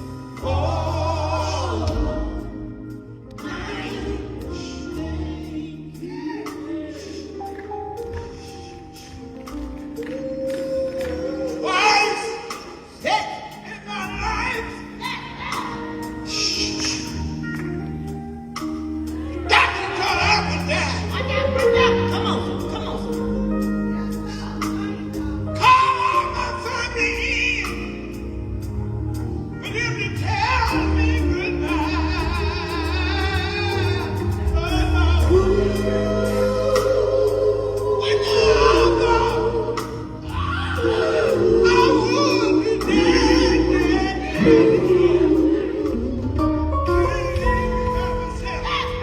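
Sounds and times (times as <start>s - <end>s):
band playing: 0.0s - 49.0s.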